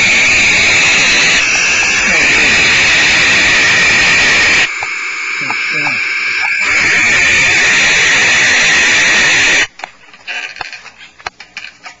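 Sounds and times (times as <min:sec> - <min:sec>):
owl hissing screech: 0:00.0 - 0:09.7.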